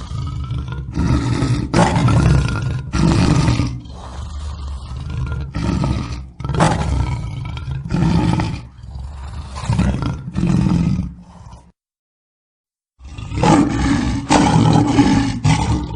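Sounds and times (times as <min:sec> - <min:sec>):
lion roaring: 0:00.0 - 0:11.8, 0:13.0 - 0:15.9.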